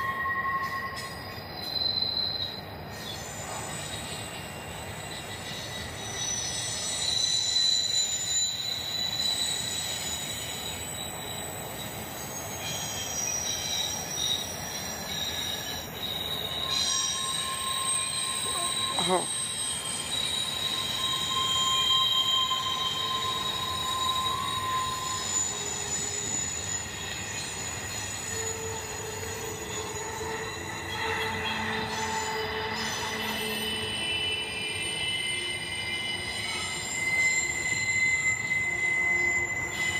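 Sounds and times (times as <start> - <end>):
train cars rumbling: 0.0 - 39.9
train wheels squealing: 0.0 - 39.9.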